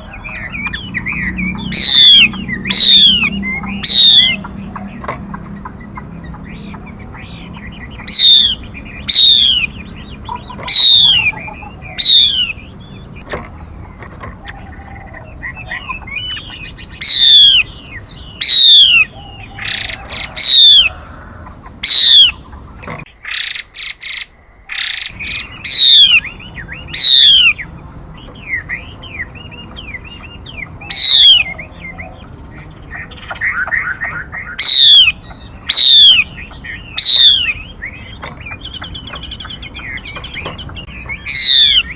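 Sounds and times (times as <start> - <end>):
bird whistling calls: 0.0 - 13.3, 14.4 - 22.5, 23.1 - 41.9
bird chattering: 0.0 - 41.9
bird twittering: 0.0 - 41.9.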